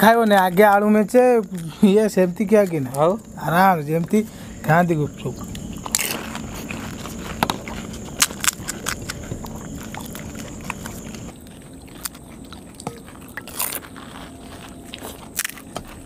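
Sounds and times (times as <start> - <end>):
crisp puris cracking and crunching: 0.1 - 3.5, 5.0 - 16.0.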